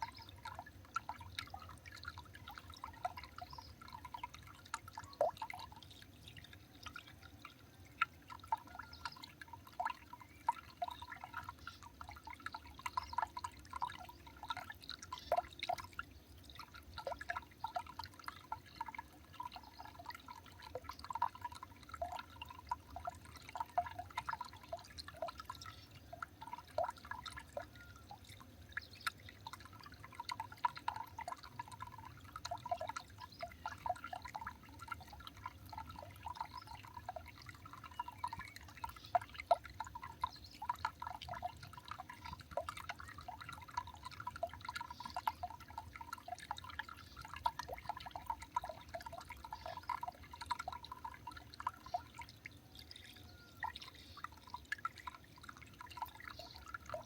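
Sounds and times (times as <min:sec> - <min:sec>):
water dripping: 0:00.0 - 0:57.0.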